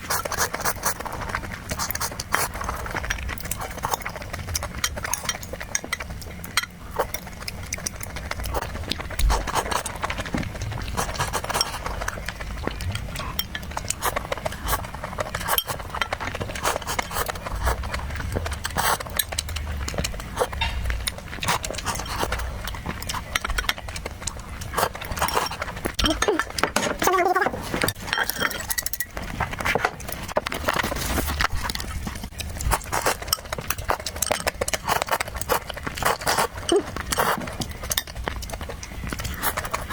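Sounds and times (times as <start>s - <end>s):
wet chewing and lip-smacking: 0.0s - 26.6s, 27.8s - 39.9s.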